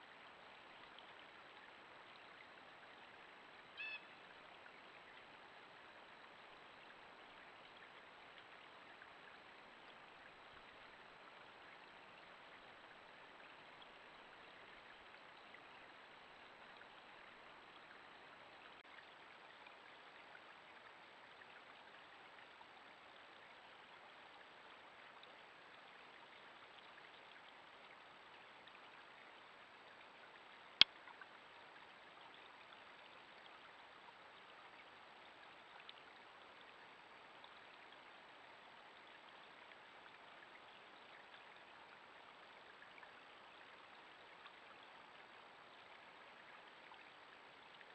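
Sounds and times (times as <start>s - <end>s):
faint steady hiss: 0.0s - 47.9s.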